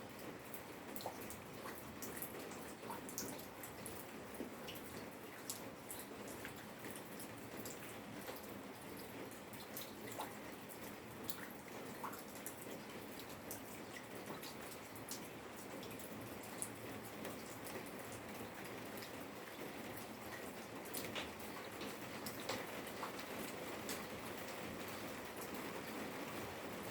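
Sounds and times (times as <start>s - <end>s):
rain pattering: 0.0s - 26.9s.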